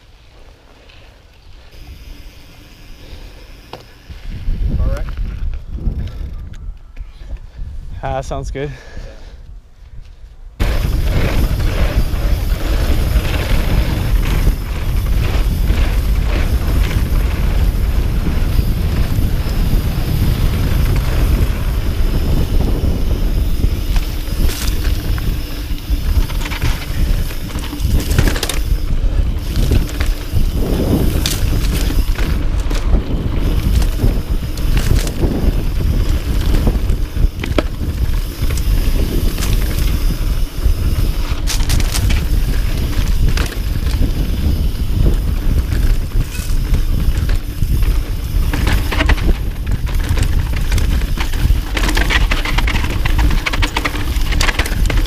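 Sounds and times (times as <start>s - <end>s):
wind rumble on microphone: 4.1s - 55.0s
bike rattling and knocking: 10.6s - 55.0s
tyres rolling on dirt: 10.6s - 55.0s.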